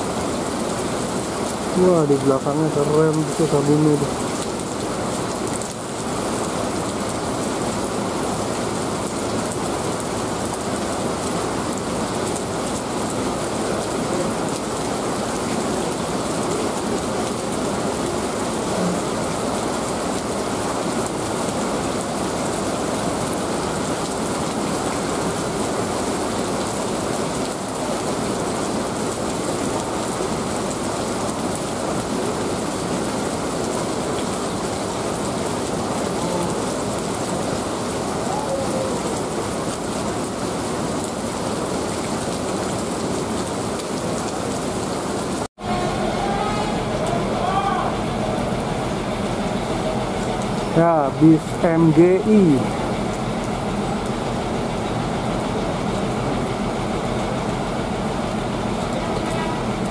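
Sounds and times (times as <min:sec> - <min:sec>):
heavy rain on wet pavement: 0:00.0 - 0:59.9.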